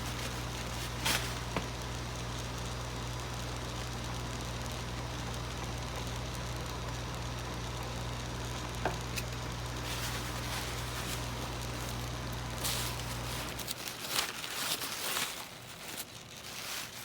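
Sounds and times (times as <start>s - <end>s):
inkjet printer humming: 0.0s - 17.0s.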